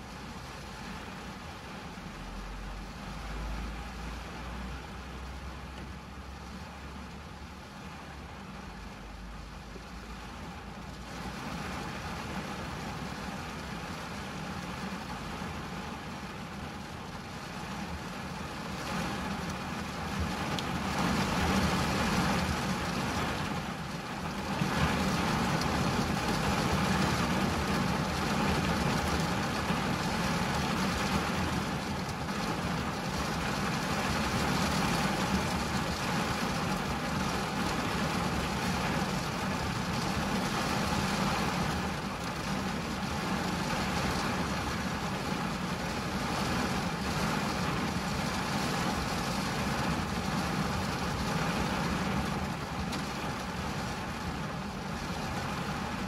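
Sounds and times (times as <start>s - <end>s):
rain on car windscreen: 0.0s - 56.0s.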